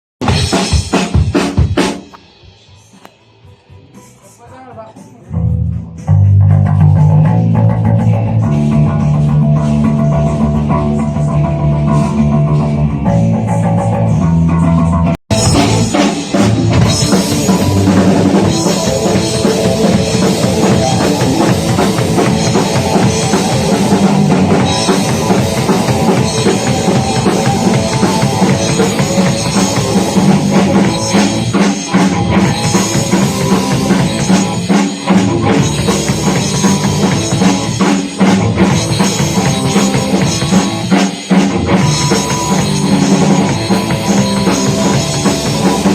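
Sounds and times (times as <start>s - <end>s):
pounding drum kit: 0.2s - 45.9s
punk rock band playing: 0.2s - 45.9s
electric guitar and bass: 5.3s - 45.9s.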